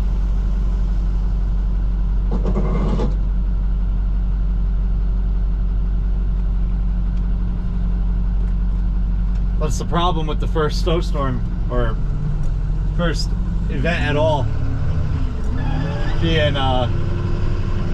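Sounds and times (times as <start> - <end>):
truck engine running inside cab: 0.0 - 17.9.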